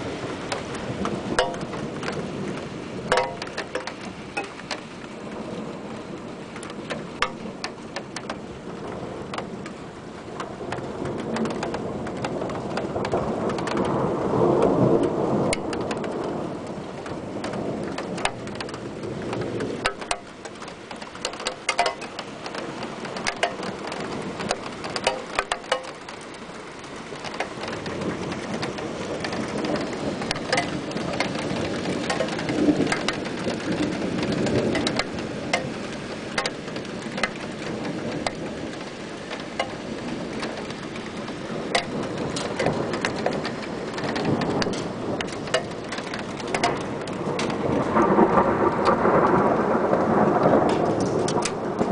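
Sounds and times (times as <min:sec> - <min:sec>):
rain falling: 0:00.0 - 0:51.9
thunder rumbling: 0:00.0 - 0:51.9.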